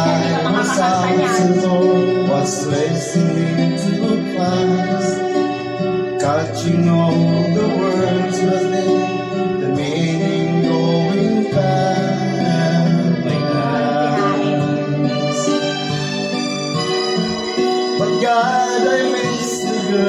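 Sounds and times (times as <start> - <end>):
guitar accompaniment: 0.0 - 20.0
person singing: 0.0 - 20.0.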